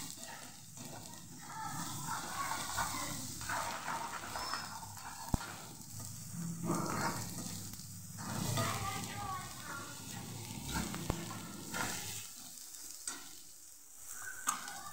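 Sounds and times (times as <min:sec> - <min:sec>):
sizzling in hot oil: 0:00.0 - 0:14.9
metal ladle scraping a pan: 0:00.1 - 0:13.5.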